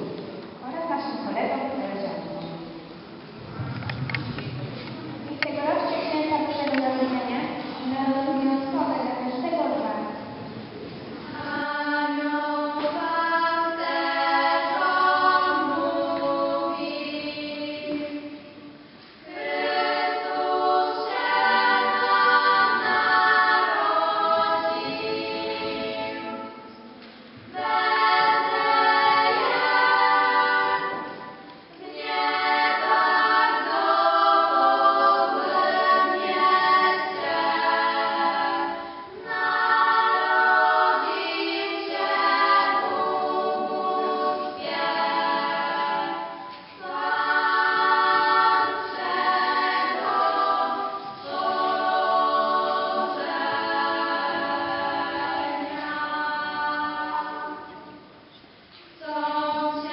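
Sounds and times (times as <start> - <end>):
girls singing a cappella: 0.0 - 59.9.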